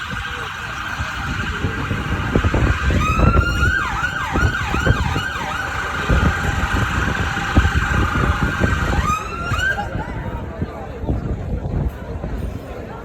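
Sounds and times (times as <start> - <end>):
emergency siren wailing: 0.0 - 10.5
low traffic rumble: 0.0 - 13.0.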